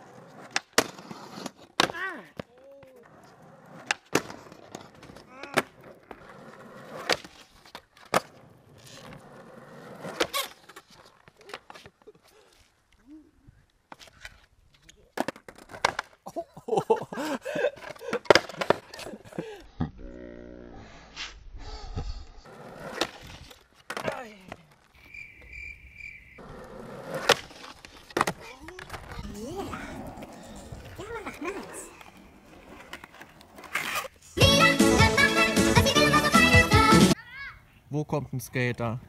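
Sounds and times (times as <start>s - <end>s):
skateboard wheels rolling: 0.0s - 13.0s, 13.6s - 16.3s, 17.2s - 19.5s, 21.9s - 37.2s.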